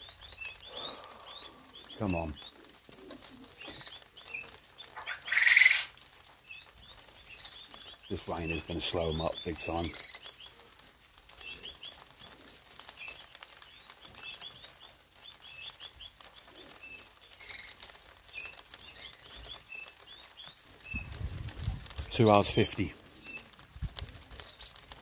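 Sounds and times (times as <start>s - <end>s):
light rain hiss: 0.0s - 25.0s
small songbirds chirping: 0.0s - 25.0s.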